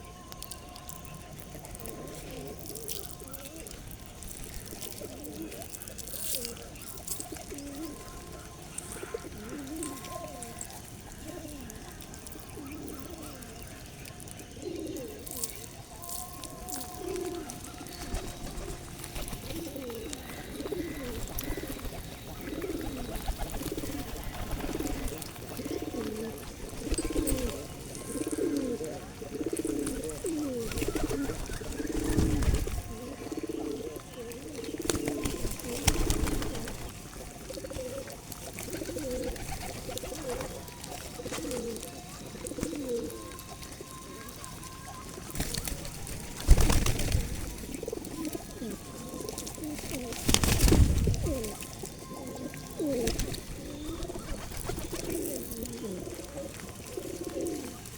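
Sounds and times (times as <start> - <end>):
pigeons cooing: 0.0 - 57.9.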